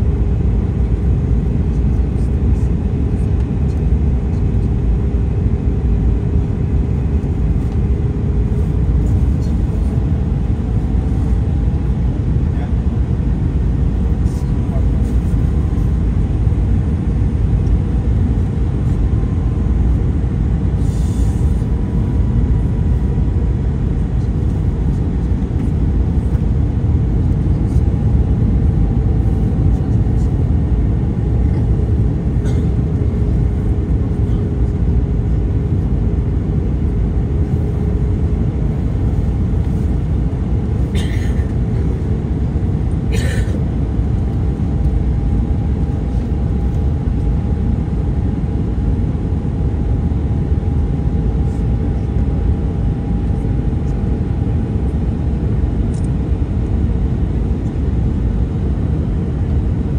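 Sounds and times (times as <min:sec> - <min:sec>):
airplane cabin air and engine rush: 0:00.0 - 0:59.9
faint engine hum: 0:00.0 - 0:59.9.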